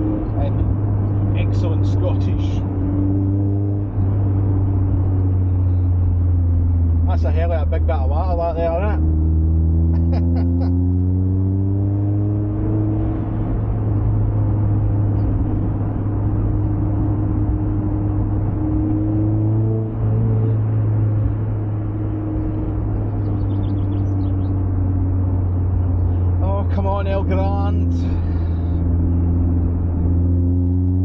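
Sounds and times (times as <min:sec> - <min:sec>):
car engine accelerating: 0:00.0 - 0:31.0
tyre and road noise: 0:00.0 - 0:31.0.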